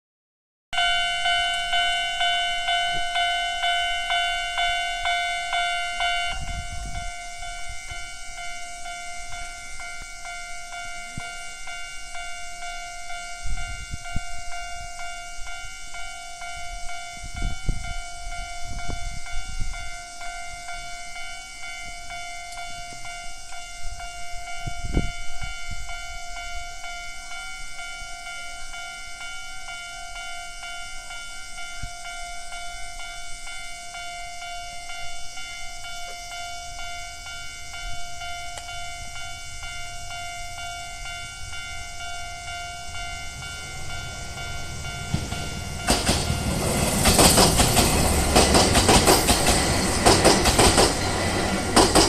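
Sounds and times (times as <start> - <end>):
level crossing alarm ringing: 0.8 - 52.0.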